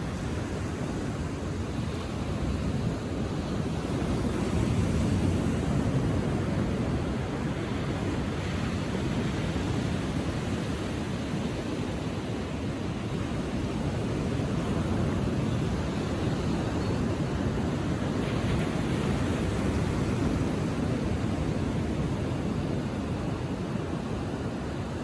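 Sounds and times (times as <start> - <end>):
ocean surf breaking on beach: 0.0 - 25.0.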